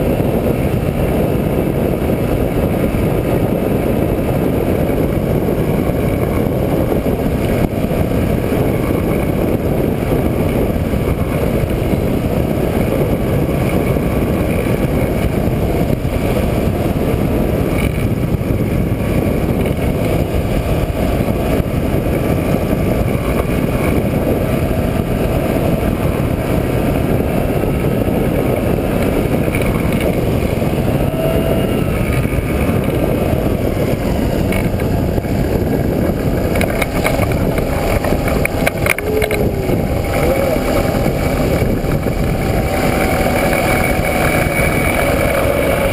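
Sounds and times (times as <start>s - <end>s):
two-stroke engine running: 0.0s - 45.9s
wind noise on microphone: 0.0s - 45.9s.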